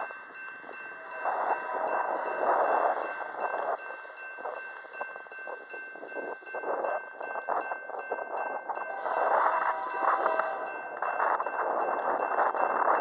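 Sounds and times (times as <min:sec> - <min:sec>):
railroad crossing bell ringing: 0:00.0 - 0:13.0
wind noise on microphone: 0:00.0 - 0:13.0.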